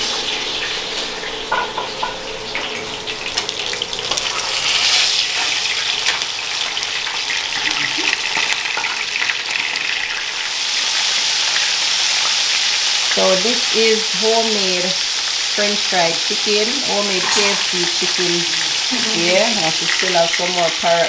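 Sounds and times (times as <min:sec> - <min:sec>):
hot oil sizzling and crackling: 0:00.0 - 0:21.0.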